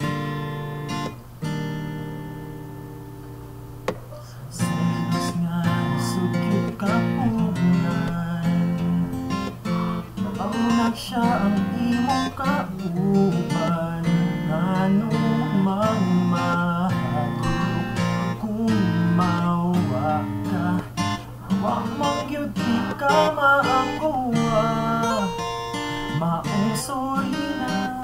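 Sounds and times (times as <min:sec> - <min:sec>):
acoustic guitar strumming chords: 0:00.0 - 0:28.0
person singing: 0:04.1 - 0:28.0.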